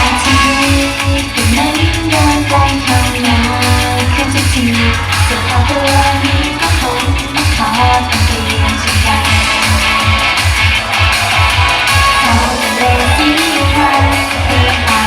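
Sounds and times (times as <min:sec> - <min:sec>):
pop song over sound system: 0:00.0 - 0:15.0.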